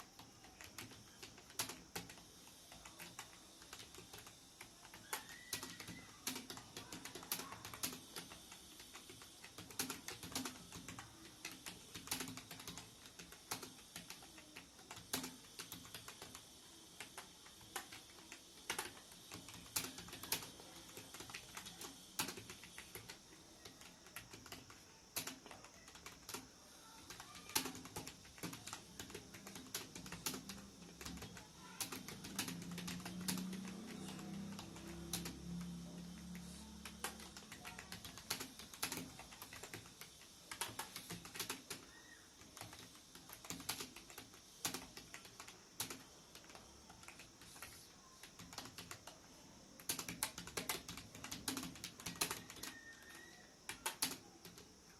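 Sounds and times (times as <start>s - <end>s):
computer keyboard typing: 0.0s - 54.9s.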